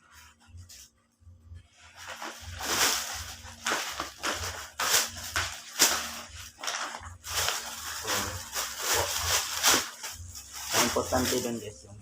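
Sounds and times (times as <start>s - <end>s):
packaging rustling and crinkling: 1.8s - 11.7s.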